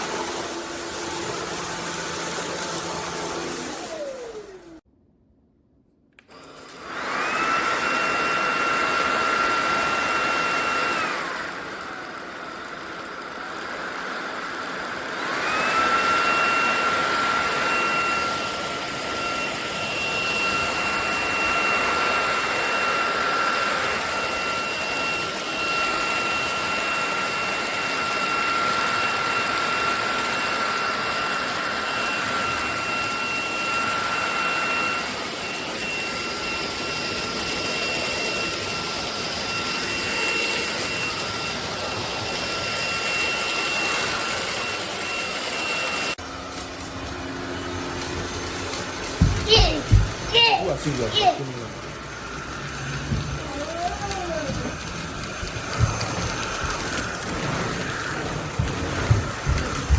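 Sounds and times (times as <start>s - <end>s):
vacuum motor whining: 0.0s - 4.8s, 6.2s - 59.9s.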